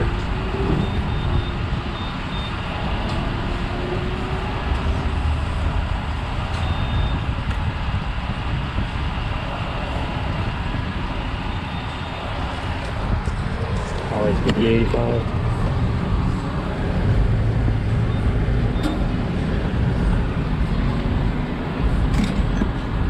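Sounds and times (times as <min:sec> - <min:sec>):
engines and traffic rumble: 0:00.0 - 0:23.0.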